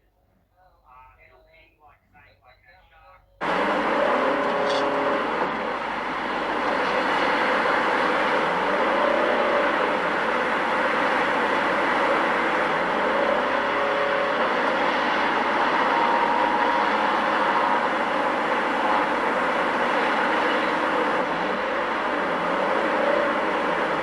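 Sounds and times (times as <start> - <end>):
vehicle road noise: 3.4 - 24.0.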